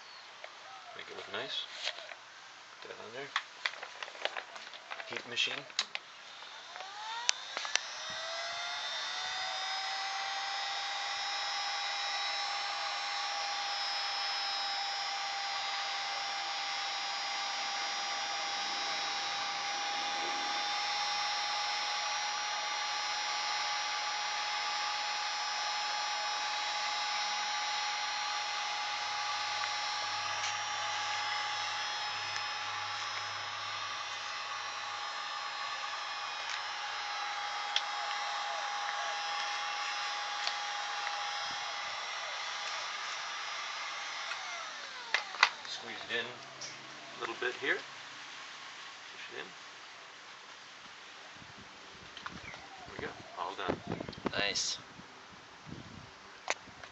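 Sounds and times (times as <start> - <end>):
heat gun fan whine: 0.0 - 49.5, 50.9 - 56.9.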